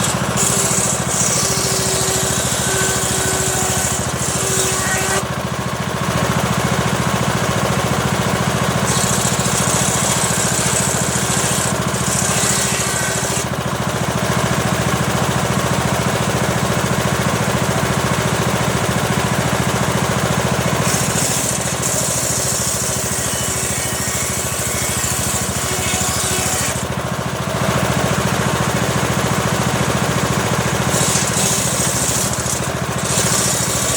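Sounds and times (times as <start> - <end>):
circular saw cutting wood: 0.0 - 33.9.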